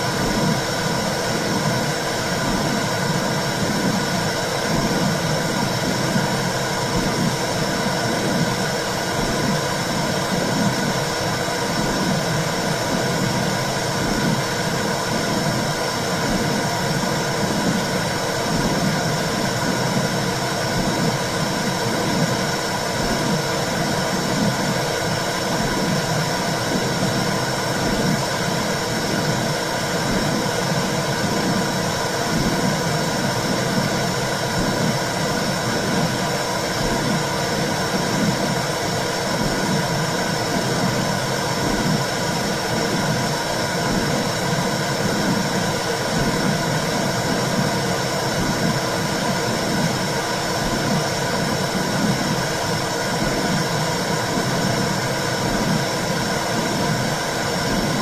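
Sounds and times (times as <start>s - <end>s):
low rhythmic heartbeat pulse: 0.2s - 58.0s.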